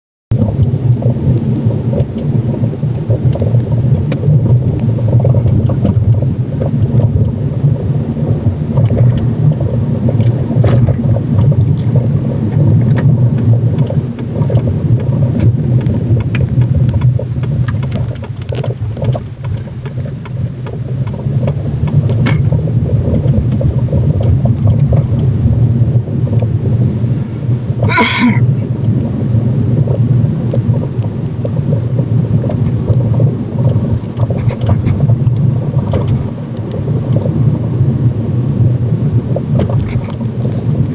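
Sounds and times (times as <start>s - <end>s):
car road rumble: 0.3s - 40.9s.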